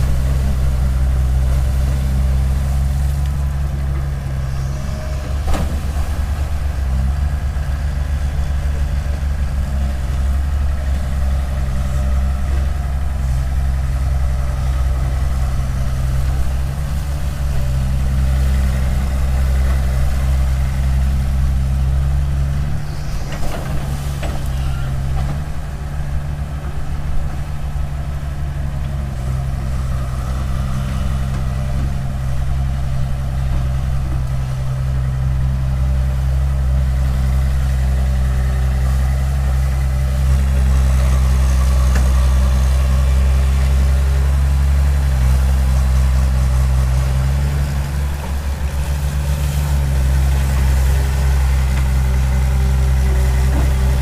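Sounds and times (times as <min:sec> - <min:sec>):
excavator diesel engine droning: 0:00.0 - 0:54.0.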